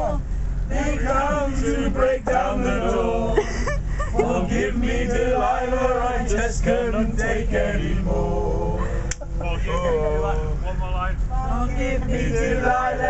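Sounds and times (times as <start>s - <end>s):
crowd singing unaccompanied: 0.6s - 3.5s, 4.1s - 10.6s, 11.4s - 13.0s.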